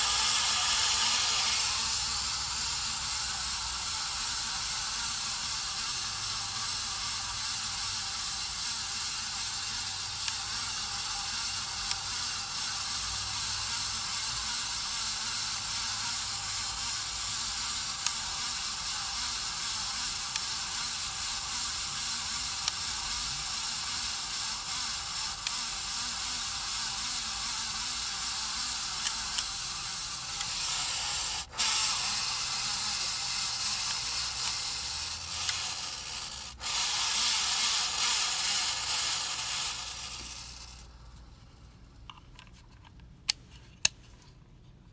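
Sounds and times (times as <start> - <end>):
ceiling fan grinding hiss: 0.0 - 44.9.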